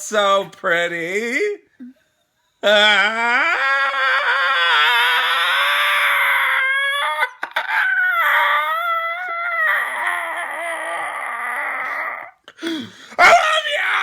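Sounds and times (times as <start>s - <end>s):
person wailing: 2.6s - 14.0s.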